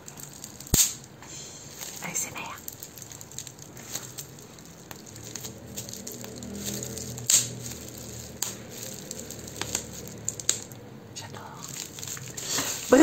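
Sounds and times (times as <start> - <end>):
bubble wrap snap: 0.0 - 10.8, 11.4 - 13.0
bubble wrap crinkling: 0.0 - 13.0.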